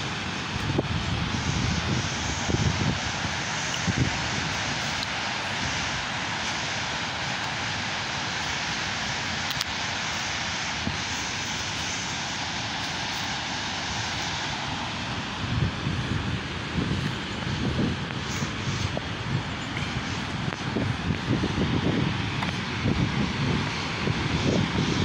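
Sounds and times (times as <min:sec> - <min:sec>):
steady rushing noise: 0:00.0 - 0:25.0.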